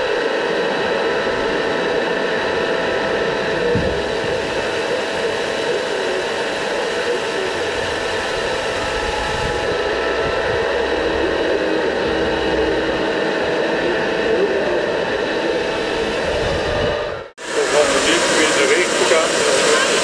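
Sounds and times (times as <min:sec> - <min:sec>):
electric fan whirring: 0:00.0 - 0:20.0.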